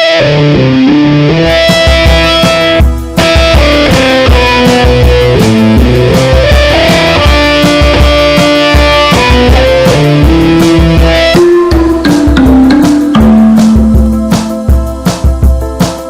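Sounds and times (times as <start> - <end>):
guitar melody: 0.0 - 15.1
bass: 0.0 - 16.0
drum kit beat: 1.4 - 16.0.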